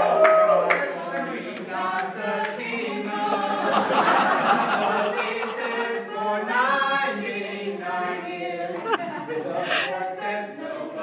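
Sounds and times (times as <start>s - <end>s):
group singing a cappella: 0.0s - 11.0s.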